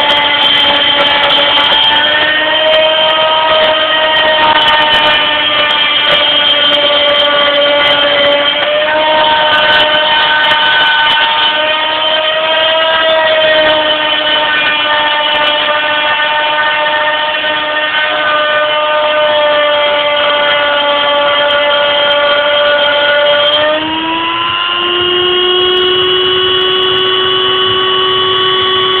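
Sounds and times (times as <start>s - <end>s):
milling machine spindle whine: 0.0s - 29.0s.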